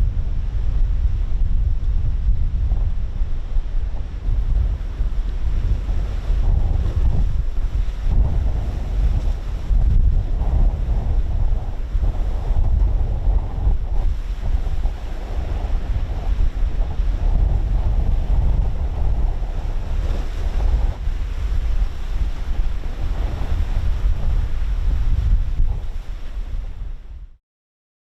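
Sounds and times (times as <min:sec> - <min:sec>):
heavy sea surf breaking: 0:00.0 - 0:27.1
wind buffeting microphone: 0:00.0 - 0:27.4.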